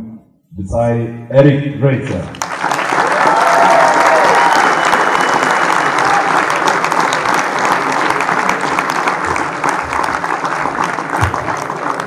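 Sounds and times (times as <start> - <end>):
audience applauding: 2.3 - 12.0.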